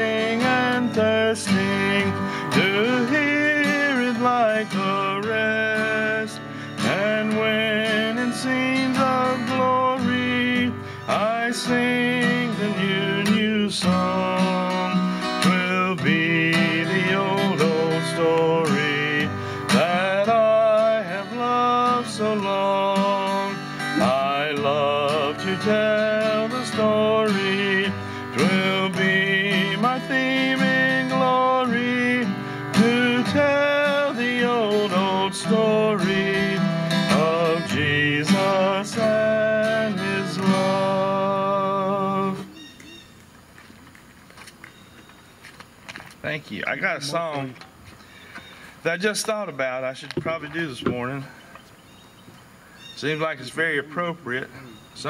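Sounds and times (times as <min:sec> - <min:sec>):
acoustic guitar: 0:00.0 - 0:44.7, 0:45.4 - 0:51.8.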